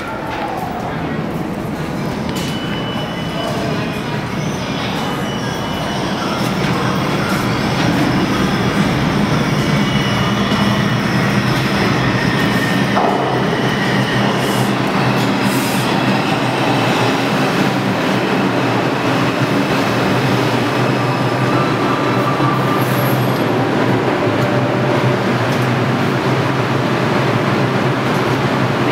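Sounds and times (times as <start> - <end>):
subway train pulling into station: 0.0 - 28.9.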